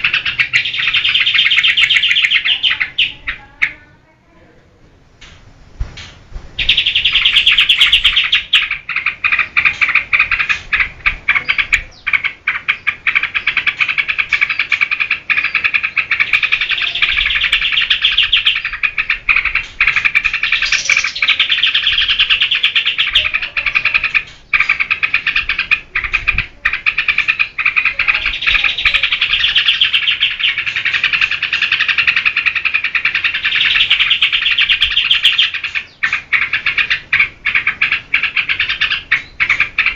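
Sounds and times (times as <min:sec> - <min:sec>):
bird singing chattering warble: 0:00.0 - 0:04.0, 0:06.0 - 0:39.9.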